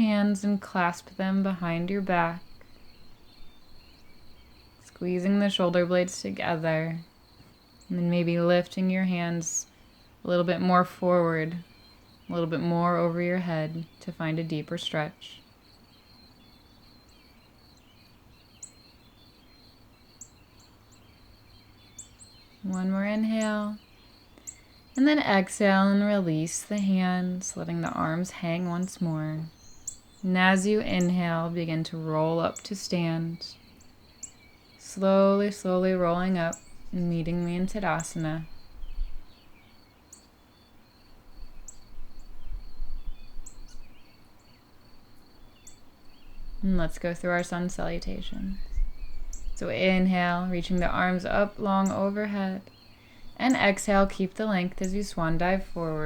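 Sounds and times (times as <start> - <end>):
bird chirps: 0.0 - 56.0.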